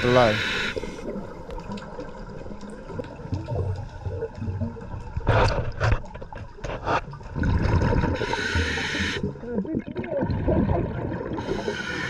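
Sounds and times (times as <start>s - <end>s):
bubbles gurgling underwater: 0.8s - 5.4s, 6.1s - 11.9s.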